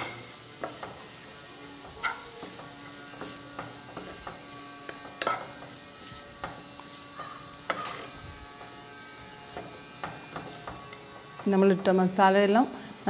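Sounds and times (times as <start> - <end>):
wooden spatula scraping a pan: 0.0 - 11.7.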